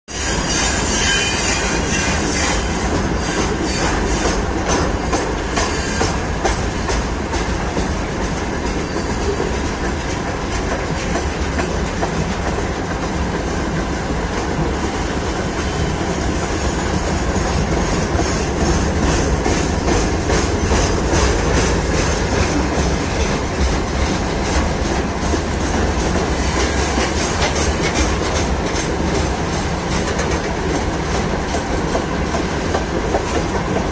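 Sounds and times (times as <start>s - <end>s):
train wheels clacking on rail joints: 0.1s - 33.9s.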